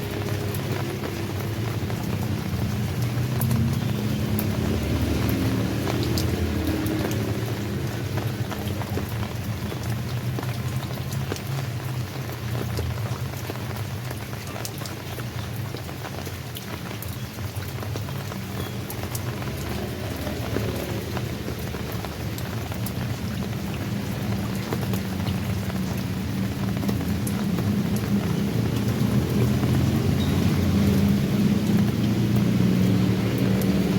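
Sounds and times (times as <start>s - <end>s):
rain falling: 0.0s - 33.9s
raindrops ticking on a surface: 0.0s - 33.9s.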